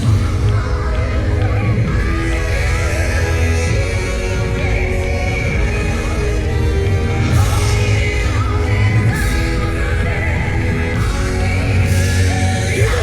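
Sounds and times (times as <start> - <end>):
rock dance music with singing: 0.0 - 13.0.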